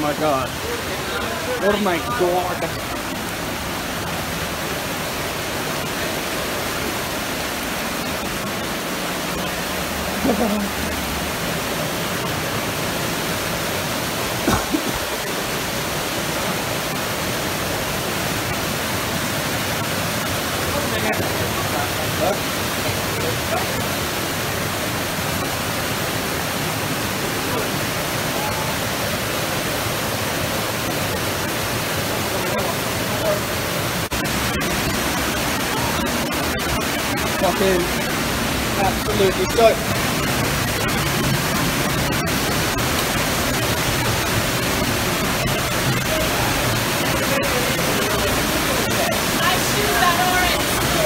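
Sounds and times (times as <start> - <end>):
steady rushing noise: 0.0 - 51.0.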